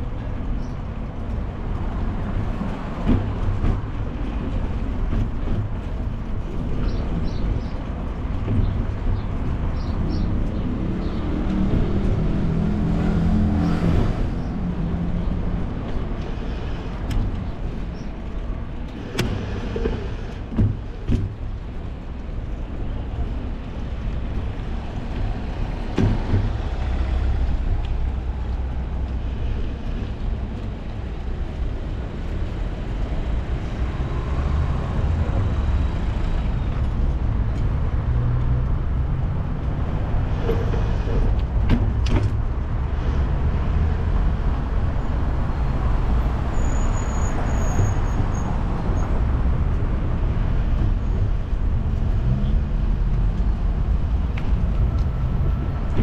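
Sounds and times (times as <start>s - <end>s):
passing car traffic: 0.0s - 56.0s
wind and road noise: 0.0s - 56.0s.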